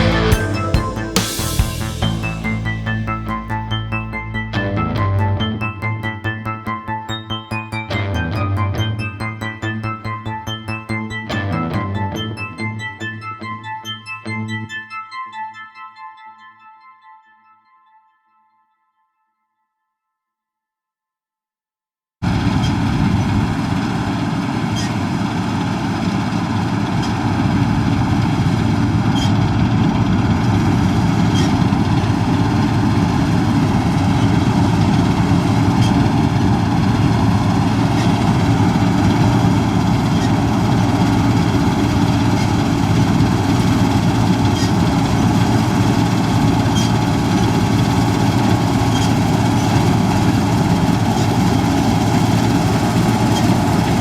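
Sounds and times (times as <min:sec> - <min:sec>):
combine harvester droning: 0:00.0 - 0:12.5, 0:22.3 - 0:54.0.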